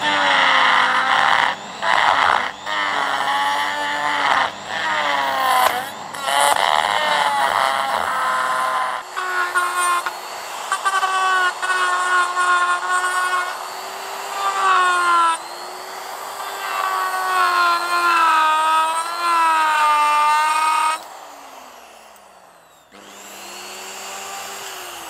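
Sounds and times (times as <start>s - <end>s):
die grinder whining: 0.0s - 25.0s.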